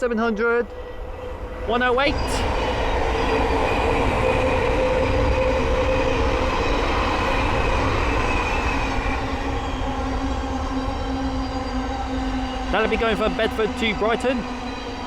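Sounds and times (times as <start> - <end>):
train whining: 0.0 - 15.0
train wheels rushing on rail: 0.4 - 15.0.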